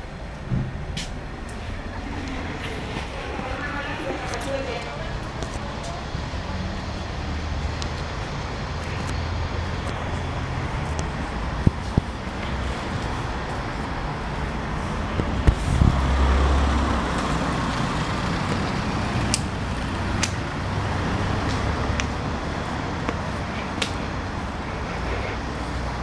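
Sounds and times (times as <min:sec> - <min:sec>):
hum of traffic: 0:00.0 - 0:26.0
passing vehicle rumble: 0:00.0 - 0:26.0.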